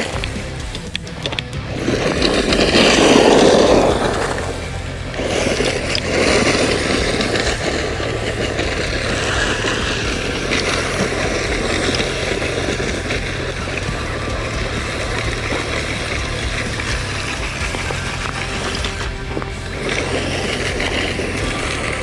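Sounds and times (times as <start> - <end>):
rc car driving on gravel: 0.0 - 22.0.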